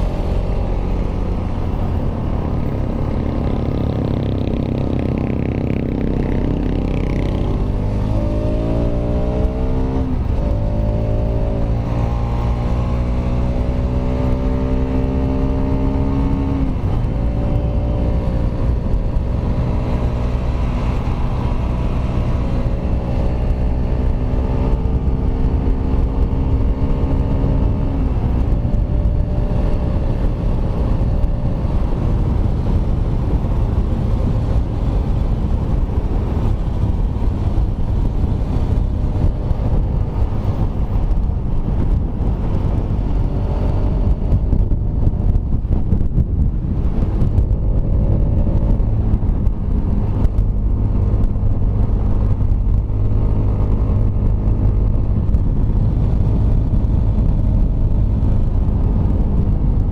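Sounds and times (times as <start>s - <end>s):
motorcycle engine accelerating: 0.0s - 59.9s
wind and road rush: 0.0s - 59.9s.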